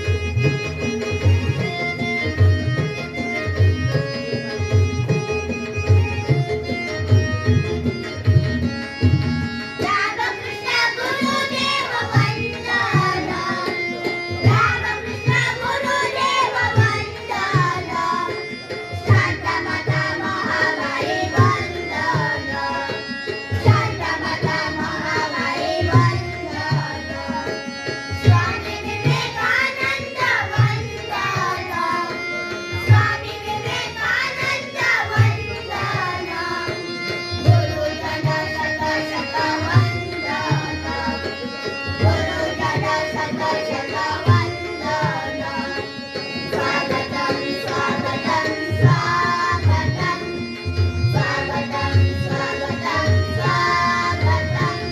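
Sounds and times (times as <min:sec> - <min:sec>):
tabla beat: 0:00.0 - 0:54.9.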